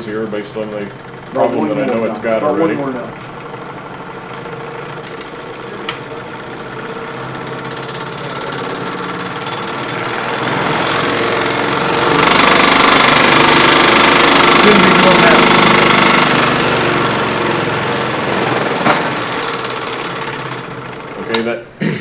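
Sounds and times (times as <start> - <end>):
scroll saw running harshly: 0.0 - 21.5.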